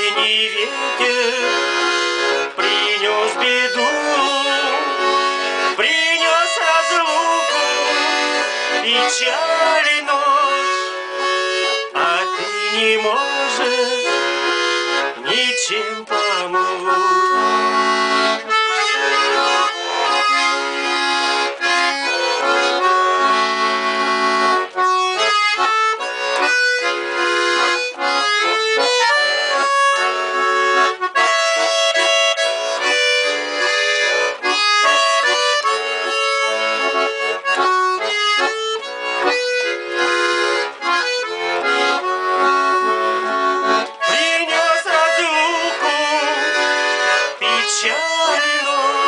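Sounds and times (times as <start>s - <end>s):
button accordion playing: 0.0s - 49.0s.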